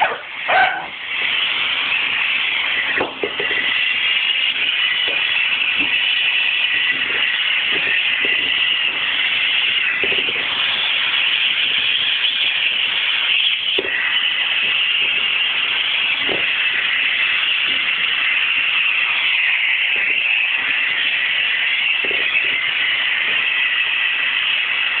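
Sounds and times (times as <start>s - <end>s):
vacuum cleaner hissing: 0.0s - 24.8s.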